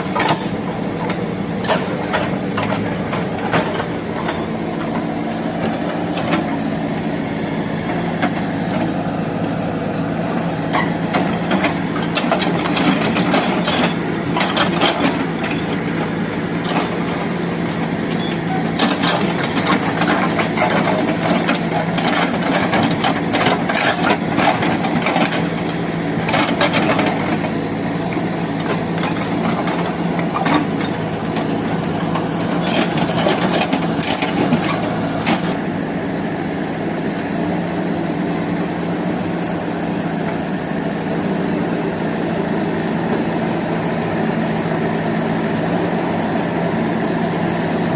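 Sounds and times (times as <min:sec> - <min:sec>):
backhoe engine running: 0:00.0 - 0:47.9.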